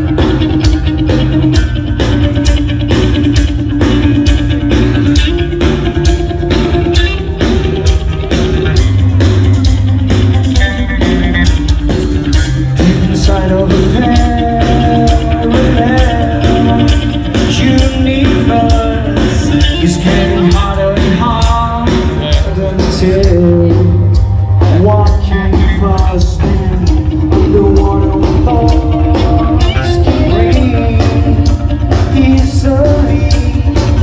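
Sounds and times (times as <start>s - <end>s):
bass and electric guitar: 0.0s - 34.0s
drum kit beat: 0.0s - 34.0s
lead melody: 0.0s - 34.0s.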